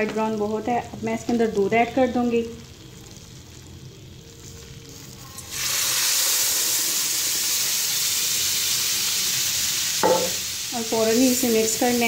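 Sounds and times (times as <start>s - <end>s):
loud sizzle in frying pan: 0.0s - 12.0s.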